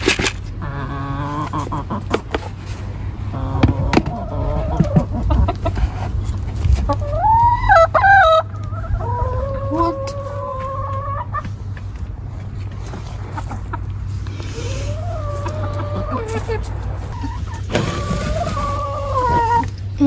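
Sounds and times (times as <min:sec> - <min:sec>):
hens squawking: 0:00.5 - 0:11.8, 0:12.6 - 0:20.0.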